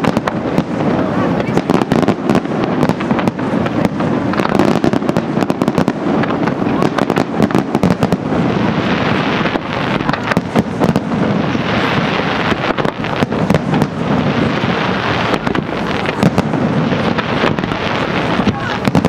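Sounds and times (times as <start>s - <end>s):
fireworks bangs and cracks: 0.0s - 19.0s
fireworks rumble: 0.0s - 19.0s.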